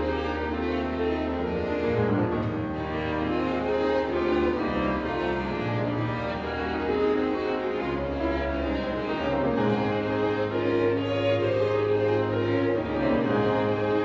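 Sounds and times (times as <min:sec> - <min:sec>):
instrumental ensemble playing: 0:00.0 - 0:14.0.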